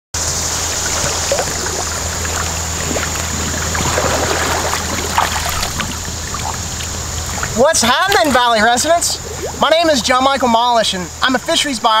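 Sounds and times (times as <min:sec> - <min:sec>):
swimmer splashing in water: 0:00.2 - 0:10.1
shallow river water flowing: 0:00.2 - 0:12.0.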